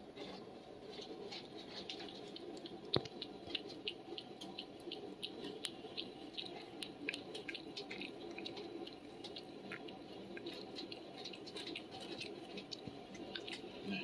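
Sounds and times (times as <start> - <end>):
cat licking food: 0.8 - 13.9.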